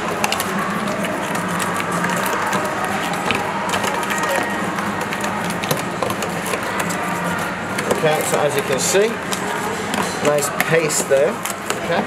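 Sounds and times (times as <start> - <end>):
utensil scraping paste in plastic tub: 0.0 - 12.0.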